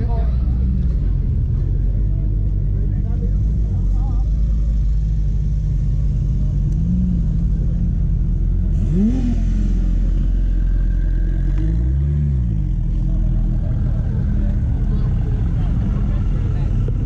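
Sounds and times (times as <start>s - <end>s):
car engines running low: 0.0s - 17.0s.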